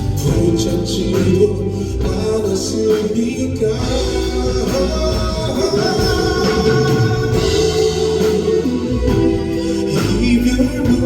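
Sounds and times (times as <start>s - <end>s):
live band playing a pop ballad: 0.0s - 11.0s
person singing: 0.0s - 11.0s.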